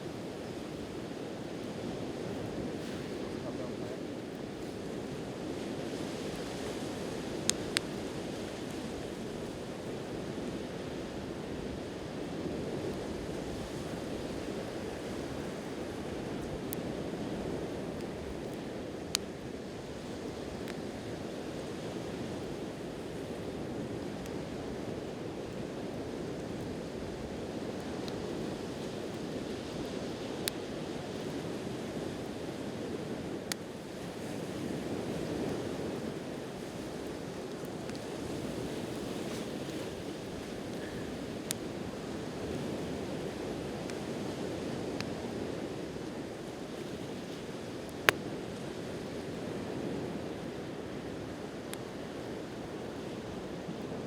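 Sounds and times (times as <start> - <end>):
campfire pops and crackles: 0.0 - 10.4, 12.2 - 49.4
sea waves washing on shore: 0.0 - 54.0.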